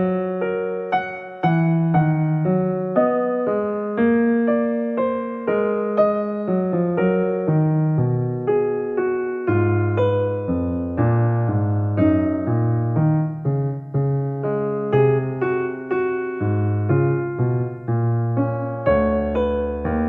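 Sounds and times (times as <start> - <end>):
slow piano piece: 0.0 - 20.0.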